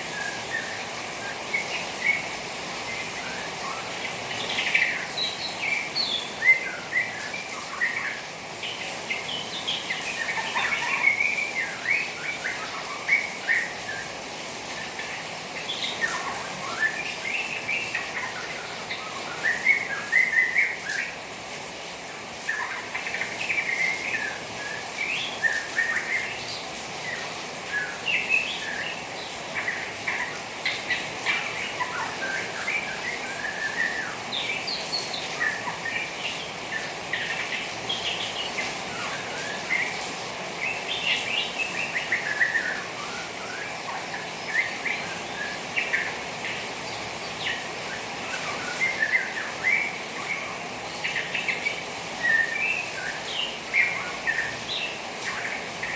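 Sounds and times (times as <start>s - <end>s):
trickling rainwater hiss: 0.0s - 55.9s.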